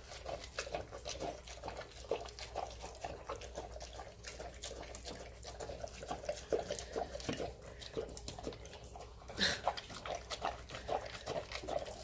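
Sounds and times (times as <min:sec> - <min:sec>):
dog eating wet food: 0:00.0 - 0:12.0.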